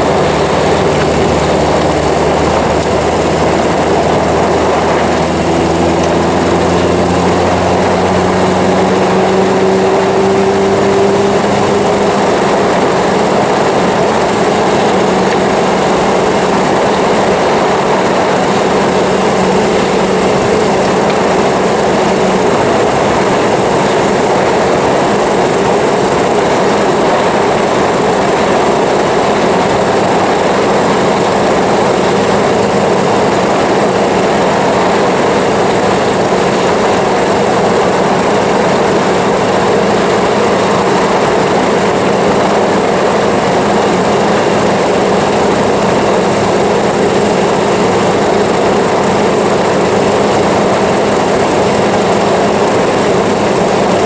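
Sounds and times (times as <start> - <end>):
car engine running: 0.0 - 54.0
road and wind noise: 0.0 - 54.0.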